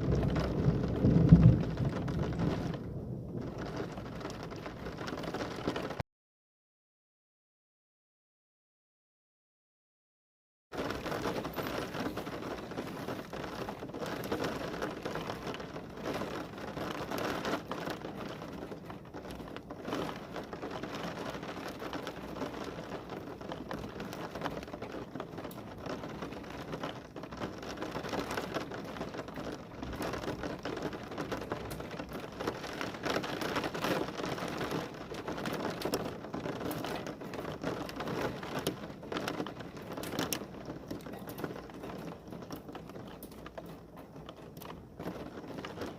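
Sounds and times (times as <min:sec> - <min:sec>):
heavy rain falling: 0:00.0 - 0:06.0, 0:10.8 - 0:45.9
raindrops striking a surface: 0:00.0 - 0:06.0, 0:10.8 - 0:45.9.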